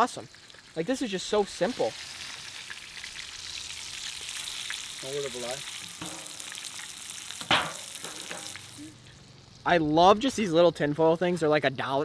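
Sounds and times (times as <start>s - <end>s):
fish frying in hot oil: 0.0s - 9.6s.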